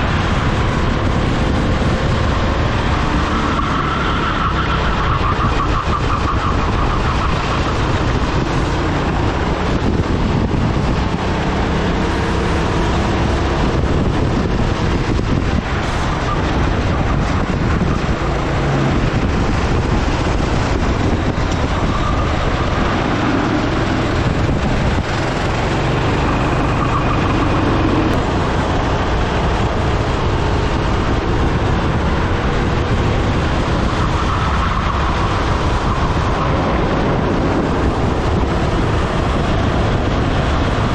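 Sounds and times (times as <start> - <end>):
dense steady rush: 0.0 - 40.9
go-kart engine racing: 0.0 - 40.9.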